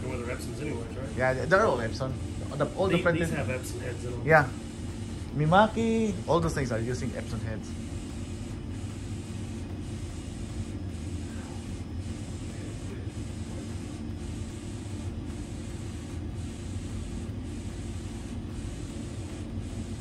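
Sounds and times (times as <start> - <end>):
printer whirring hiss: 0.0 - 20.0.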